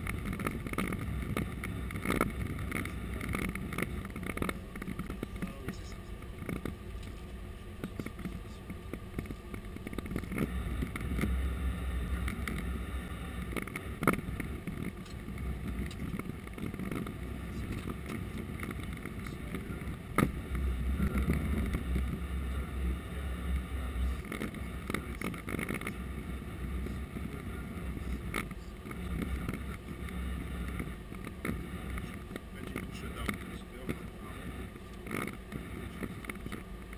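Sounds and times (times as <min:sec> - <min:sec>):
aircraft engines rumbling: 0:00.0 - 0:36.9.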